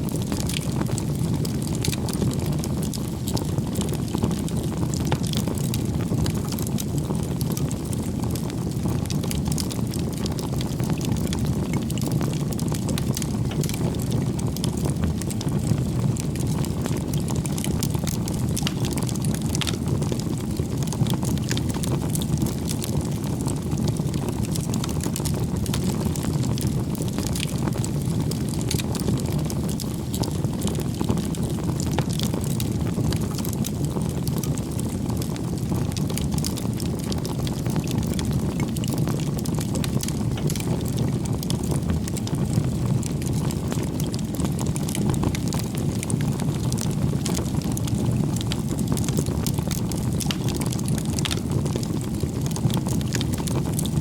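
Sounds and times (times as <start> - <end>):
firewood crackling and popping: 0.0 - 54.0
flames rumbling: 0.0 - 54.0.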